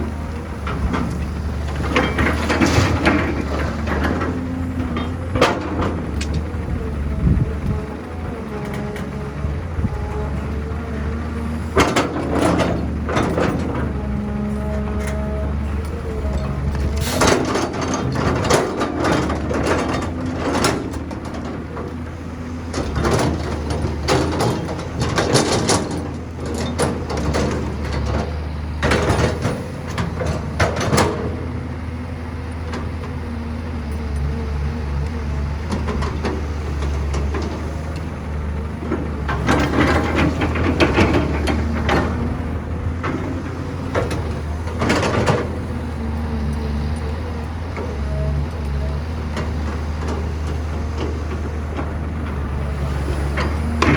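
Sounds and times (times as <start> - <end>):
heavy diesel engine droning: 0.0 - 53.9.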